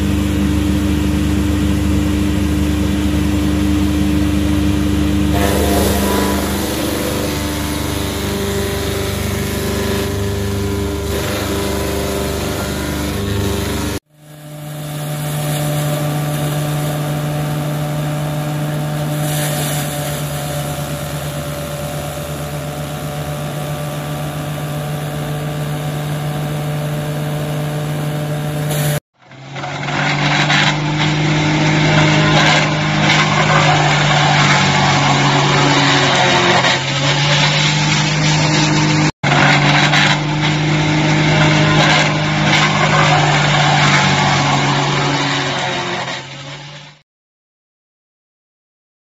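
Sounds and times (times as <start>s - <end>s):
wood crusher engine humming: 0.0s - 46.9s
wood chipper grinding stick: 0.0s - 47.0s.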